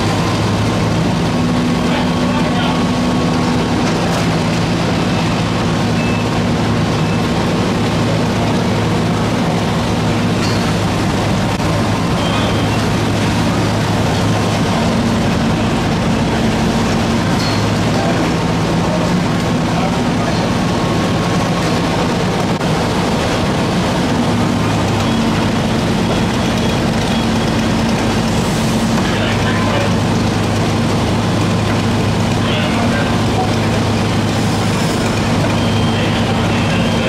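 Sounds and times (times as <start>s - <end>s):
diesel engine droning: 0.0s - 37.0s
water rushing noise: 0.0s - 37.0s.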